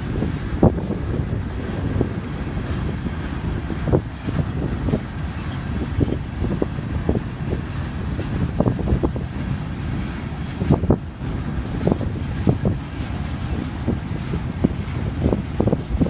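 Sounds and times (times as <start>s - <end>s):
freight train rumbling: 0.0s - 16.0s
train cars knocking and clanking: 0.0s - 16.0s
wind buffeting microphone: 0.0s - 16.0s.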